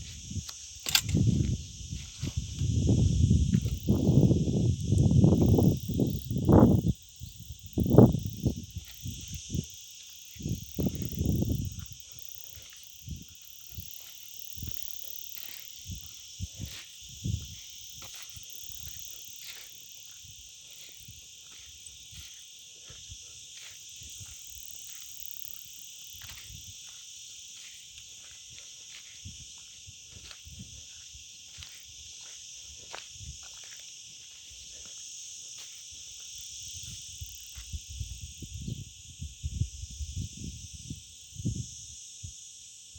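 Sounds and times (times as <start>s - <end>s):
insect chorus drone: 0.0s - 42.9s.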